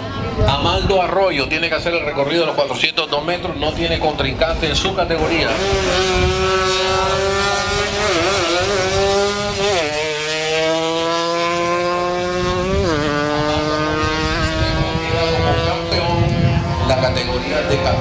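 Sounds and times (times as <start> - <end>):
two-stroke motorcycle accelerating: 3.5 - 18.0.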